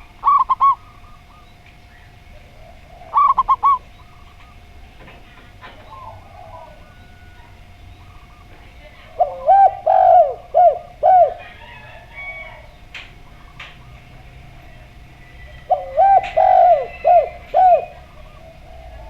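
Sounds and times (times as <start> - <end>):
dove cooing: 0.0 - 4.8, 5.5 - 19.0.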